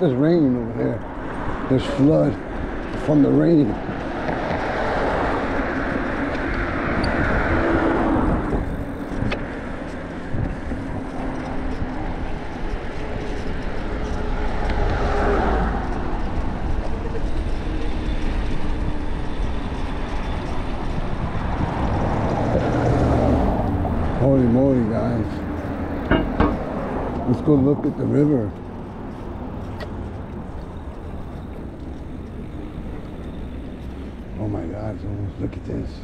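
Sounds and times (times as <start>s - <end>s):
cars passing: 0.0s - 36.0s
road noise rumble: 0.0s - 36.0s.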